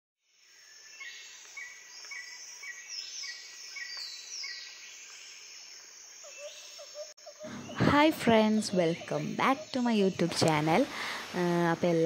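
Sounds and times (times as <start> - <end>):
high insect drone: 0.3 - 12.0
bird chirping: 0.4 - 10.8.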